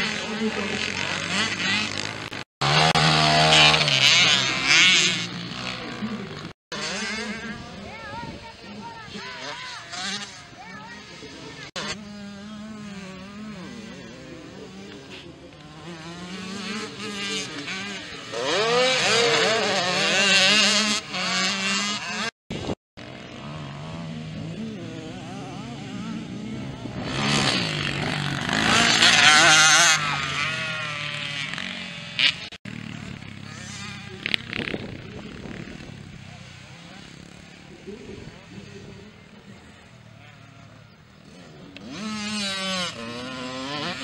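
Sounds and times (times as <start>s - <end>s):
motocross bikes revving: 0.0s - 44.0s.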